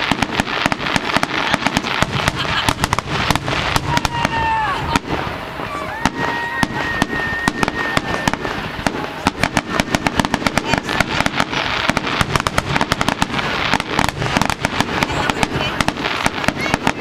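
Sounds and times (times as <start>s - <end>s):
fireworks bursting in sharp bangs: 0.0s - 17.0s.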